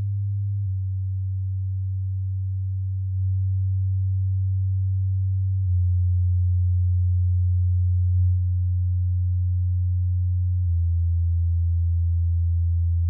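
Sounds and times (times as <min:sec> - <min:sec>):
low bass test tone: 0:00.0 - 0:13.0.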